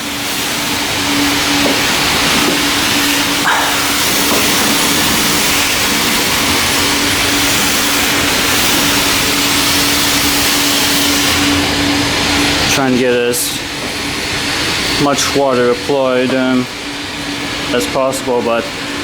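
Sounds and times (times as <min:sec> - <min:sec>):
pressure washer spray hissing: 0:00.0 - 0:15.3.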